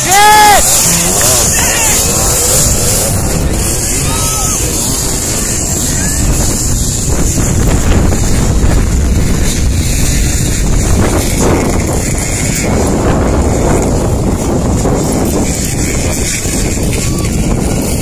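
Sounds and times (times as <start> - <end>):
two-stroke motocross bike engines: 0.0 - 18.0
wind noise on microphone: 0.0 - 18.0.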